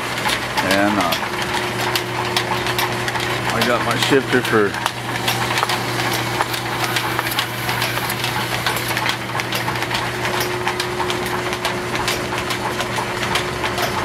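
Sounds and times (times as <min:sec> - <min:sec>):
rapid uneven ticking of belts: 0:00.1 - 0:14.0
line shaft machinery humming: 0:00.5 - 0:14.0.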